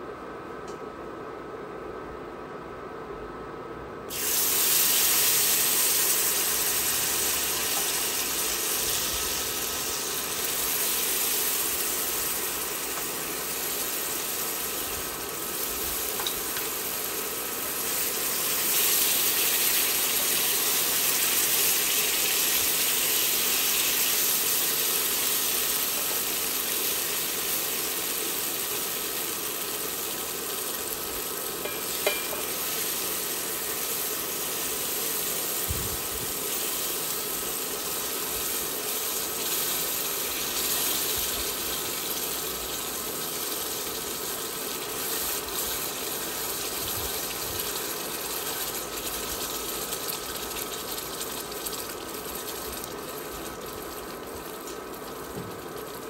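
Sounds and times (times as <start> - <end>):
sauce sizzling and bubbling: 4.1 - 56.0
whisk tapping pan: 5.0 - 56.0.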